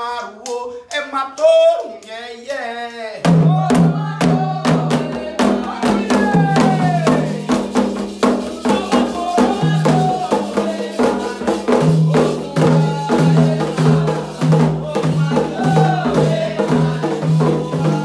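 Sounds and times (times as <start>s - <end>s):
voices singing a chant: 0.0s - 18.0s
hand drums playing fast rhythm: 3.2s - 18.0s.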